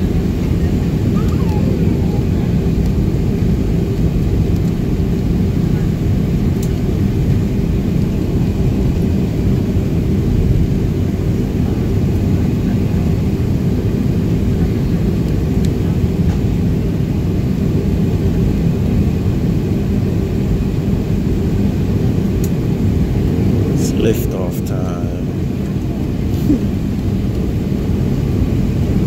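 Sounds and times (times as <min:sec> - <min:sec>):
airplane cabin noise: 0:00.0 - 0:29.0
jet engines rumbling: 0:00.0 - 0:29.0.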